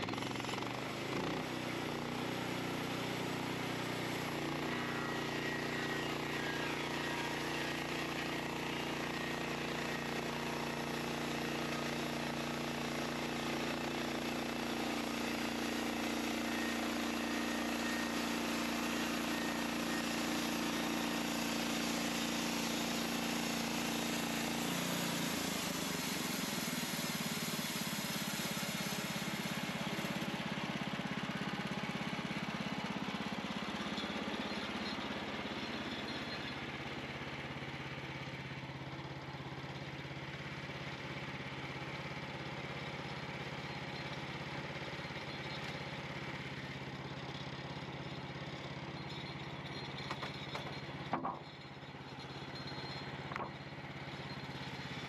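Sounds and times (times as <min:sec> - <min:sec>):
gas engine running: 0:00.0 - 0:55.0.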